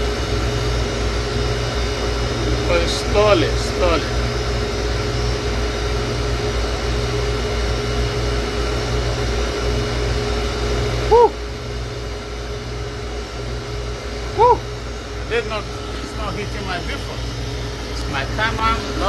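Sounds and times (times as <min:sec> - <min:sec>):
compressor and fan hum: 0:00.0 - 0:19.0.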